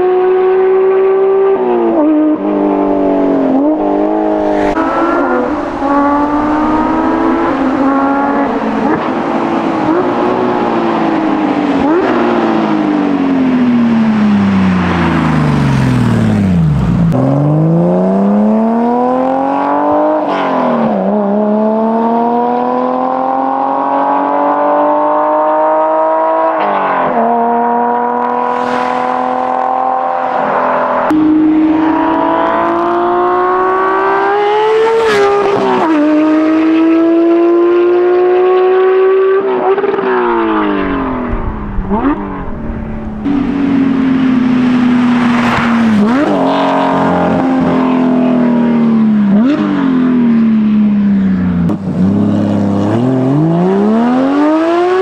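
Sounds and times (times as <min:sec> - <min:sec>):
sports car accelerating past: 0:00.0 - 0:55.0.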